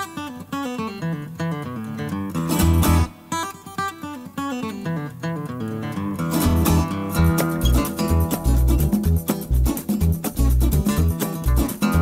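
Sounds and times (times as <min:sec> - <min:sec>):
acoustic guitar picking melody: 0:00.0 - 0:12.0.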